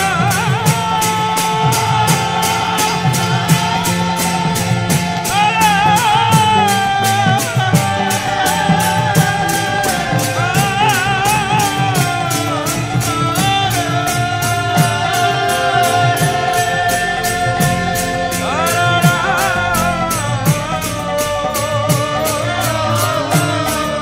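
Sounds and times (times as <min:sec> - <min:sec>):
hand cymbals beating: 0:00.0 - 0:24.0
hand drums: 0:00.0 - 0:24.0
person singing wavering melody: 0:00.0 - 0:24.0.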